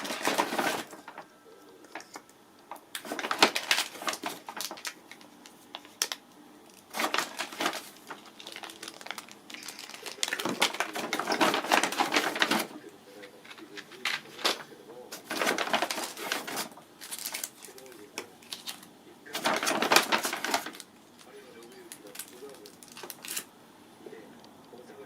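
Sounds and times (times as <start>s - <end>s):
packaging rustling and clicking: 0.0s - 23.5s.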